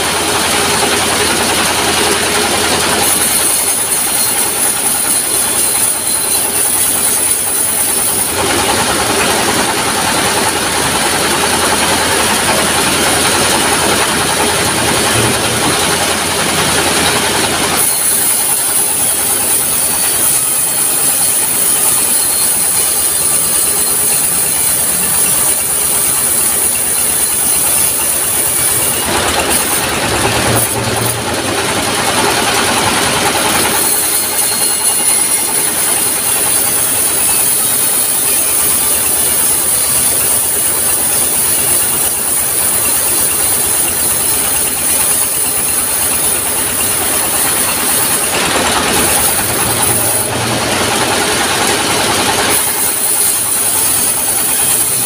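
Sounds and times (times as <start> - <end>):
sawmill saw ripping timber: 0.0 - 55.0.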